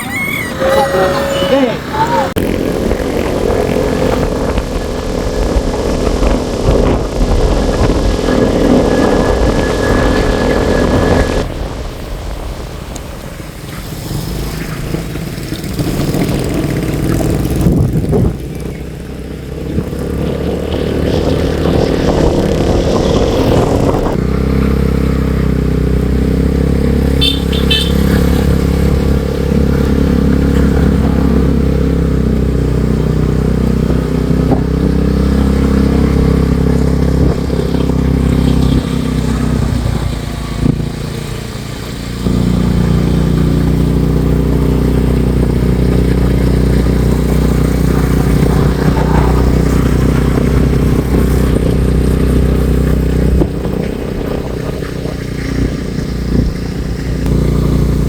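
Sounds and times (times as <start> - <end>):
motorcycle engine running: 0.0 - 12.5, 13.5 - 58.0.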